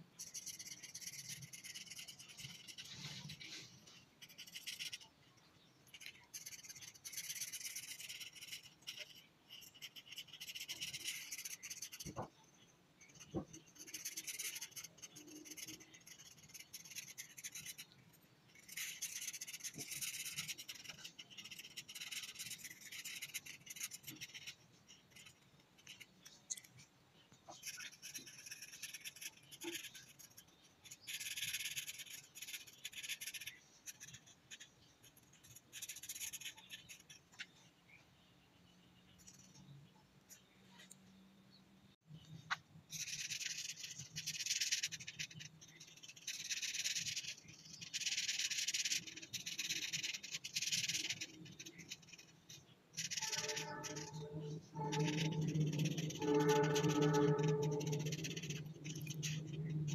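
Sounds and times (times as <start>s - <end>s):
marker scratching on paper: 0.2s - 5.1s, 5.9s - 12.4s, 13.0s - 26.6s, 27.5s - 37.5s, 42.9s - 59.9s.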